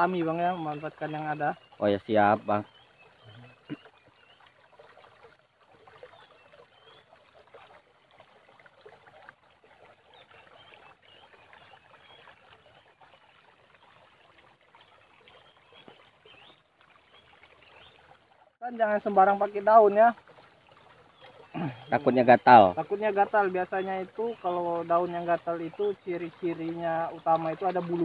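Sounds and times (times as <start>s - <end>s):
trickling water: 0.0s - 28.0s.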